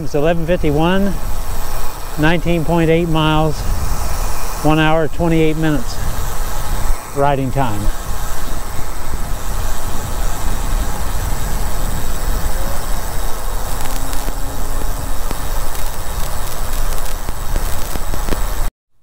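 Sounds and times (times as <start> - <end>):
wind buffeting microphone: 0.0 - 18.6.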